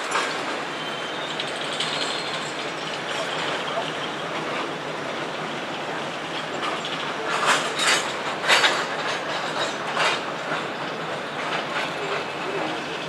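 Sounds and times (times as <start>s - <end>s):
freight train rolling past: 0.0s - 13.0s
train wheels clacking on rail joints: 0.0s - 13.0s.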